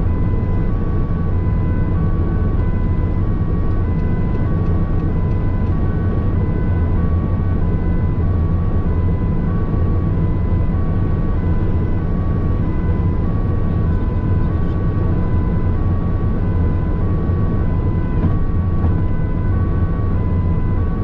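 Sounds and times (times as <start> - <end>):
two-tone emergency siren: 0.0 - 21.0
van engine and tyres rumbling: 0.0 - 21.0.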